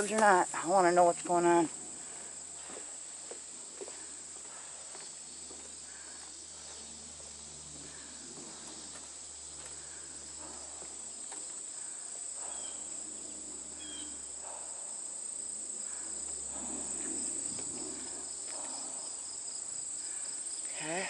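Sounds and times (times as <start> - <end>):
crickets and insects chorus: 0.0 - 21.0.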